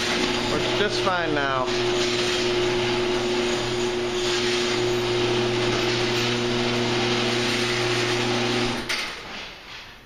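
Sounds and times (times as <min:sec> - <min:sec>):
garage door opener motor running: 0:00.0 - 0:09.3.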